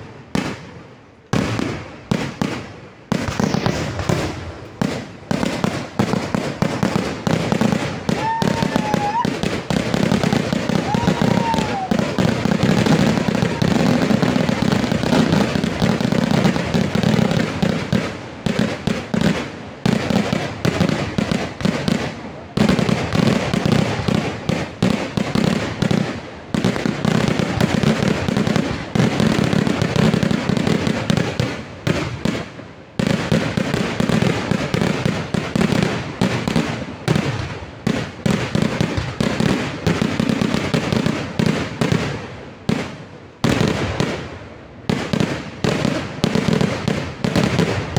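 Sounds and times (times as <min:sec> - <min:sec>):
firecracker blasts: 0:00.0 - 0:47.9.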